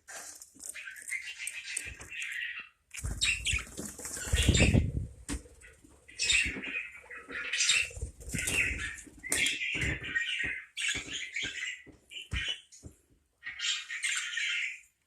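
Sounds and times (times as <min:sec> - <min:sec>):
parakeets chattering: 0:00.7 - 0:12.8.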